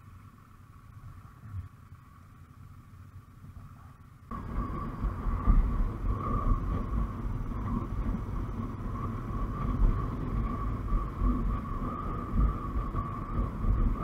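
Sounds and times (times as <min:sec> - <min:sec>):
motorcycle engine running: 0:00.0 - 0:14.0
steady whine: 0:00.0 - 0:14.0
wind rumble on microphone: 0:00.0 - 0:14.0.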